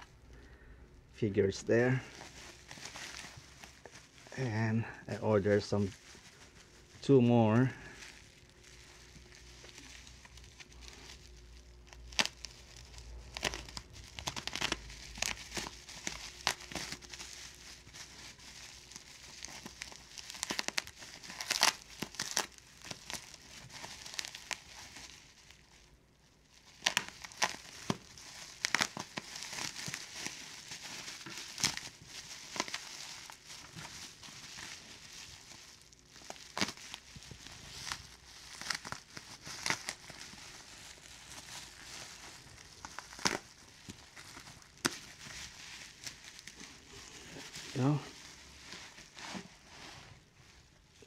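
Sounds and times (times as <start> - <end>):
bubble wrap crackling: 0.0 - 51.0.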